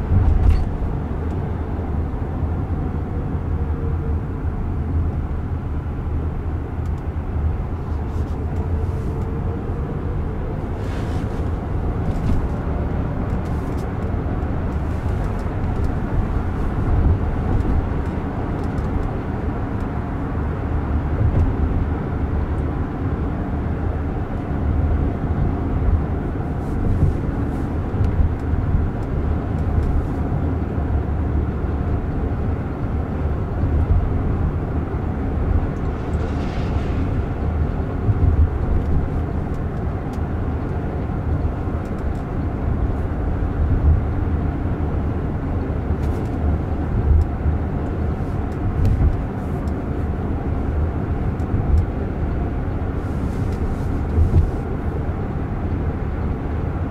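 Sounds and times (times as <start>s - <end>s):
road and tyre rumble in car: 0.0s - 56.9s.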